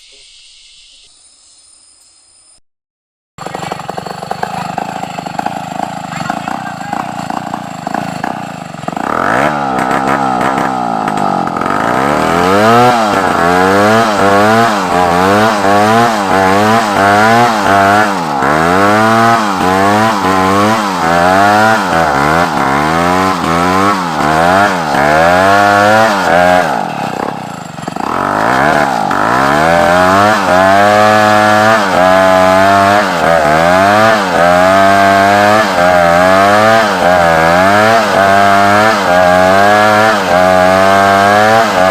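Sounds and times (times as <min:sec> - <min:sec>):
chainsaw cutting wood: 0:03.4 - 0:41.9.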